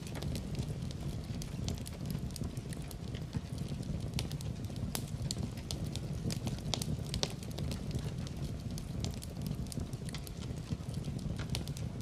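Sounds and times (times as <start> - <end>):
fire crackling and popping: 0.0 - 12.0
low rumble of flames: 0.0 - 12.0.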